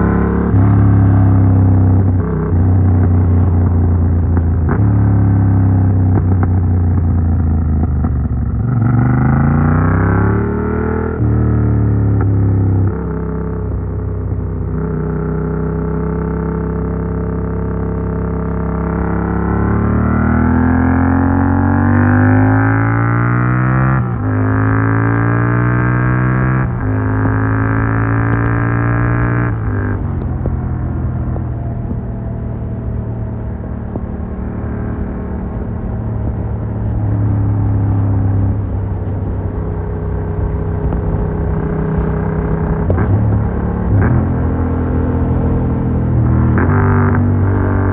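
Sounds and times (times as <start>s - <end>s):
motorcycle engine while riding: 0.0s - 47.9s.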